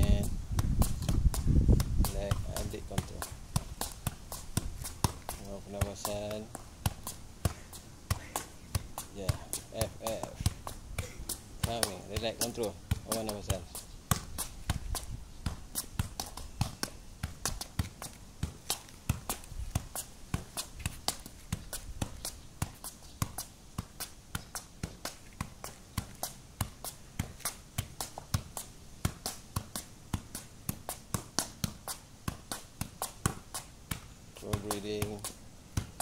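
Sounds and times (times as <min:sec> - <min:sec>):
ball tapping on shoe: 0:00.0 - 0:36.0.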